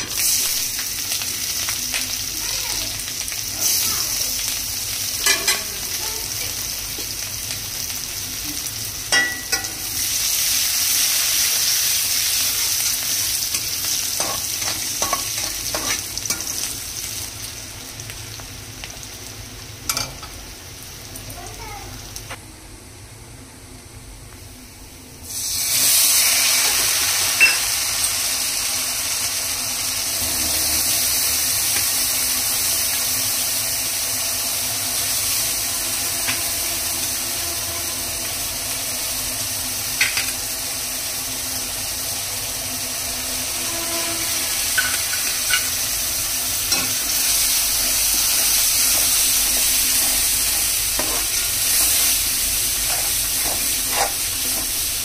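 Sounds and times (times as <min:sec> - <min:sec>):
food sizzling in hot oil: 0:00.0 - 0:22.4, 0:25.2 - 0:55.0.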